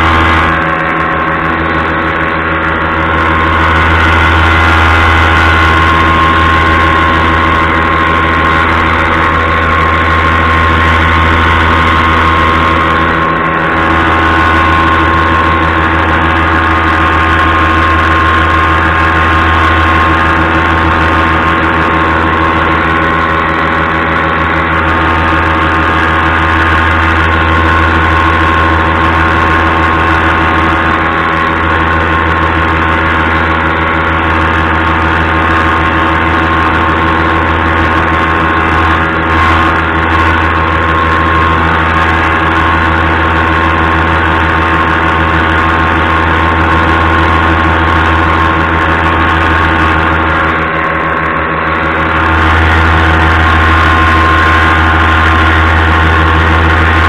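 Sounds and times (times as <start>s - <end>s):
paramotor engine and propeller: 0.0s - 57.0s.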